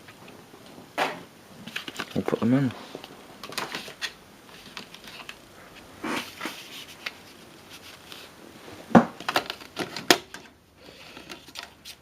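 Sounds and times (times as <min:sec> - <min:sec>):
plastic packaging rustling: 0:01.6 - 0:12.0.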